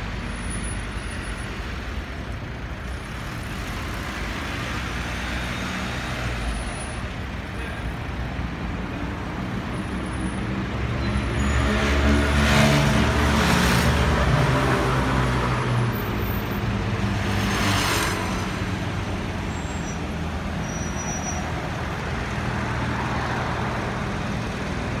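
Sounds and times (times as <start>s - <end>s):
city street traffic: 0.0s - 25.0s.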